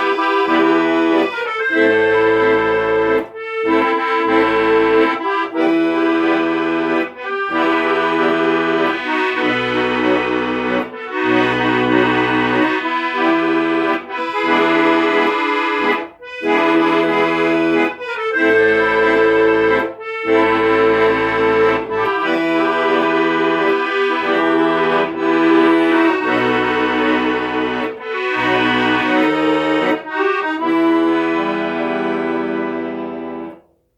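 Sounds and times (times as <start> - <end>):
accordion melody: 0.0 - 33.9.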